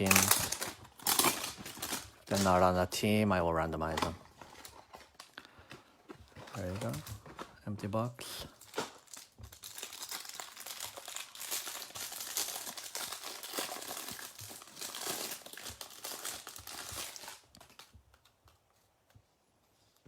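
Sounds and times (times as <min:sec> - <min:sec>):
plastic wrapping crinkling and tearing: 0:00.0 - 0:18.4.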